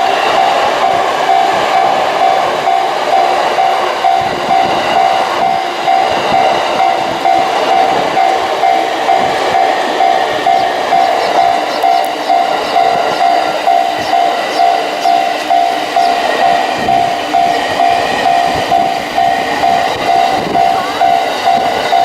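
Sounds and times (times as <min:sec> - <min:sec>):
level-crossing warning bell ringing: 0:00.0 - 0:22.0
train passing: 0:00.0 - 0:22.0.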